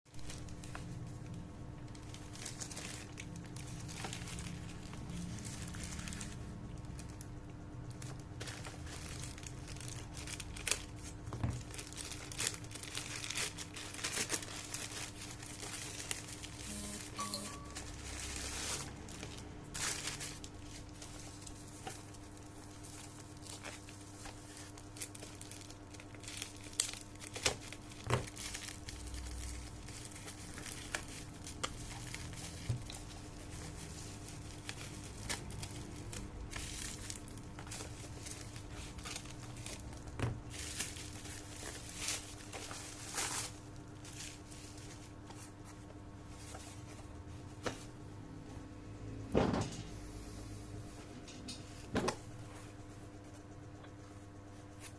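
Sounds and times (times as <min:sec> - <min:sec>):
packaging crinkling and tearing: 0:00.1 - 0:45.5
faint steady hum: 0:00.1 - 0:54.9.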